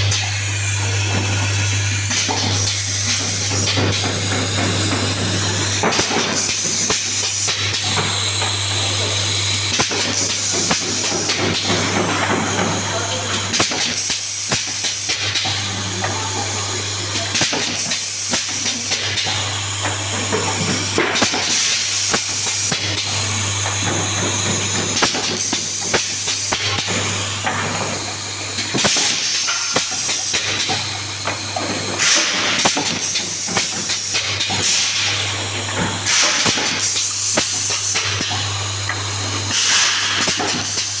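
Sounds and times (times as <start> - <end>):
machine motor hum: 0.0 - 41.0.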